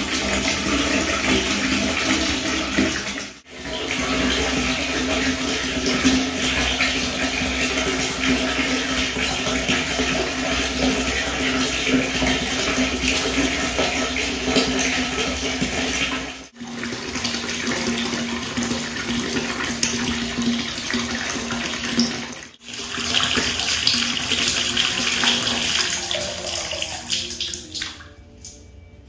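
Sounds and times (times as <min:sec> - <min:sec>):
tap water pouring into bucket: 0:00.0 - 0:28.6
water trickling: 0:00.0 - 0:28.8.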